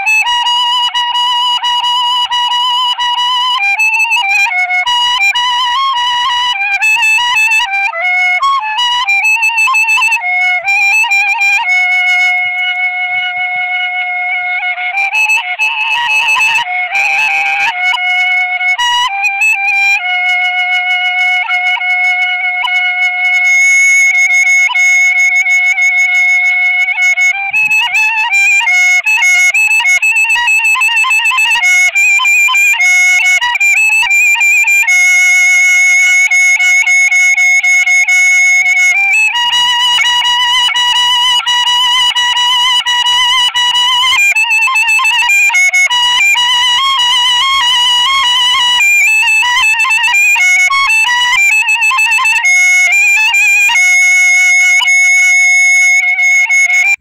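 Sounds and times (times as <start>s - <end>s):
flute playing folk melody: 0.0s - 57.0s.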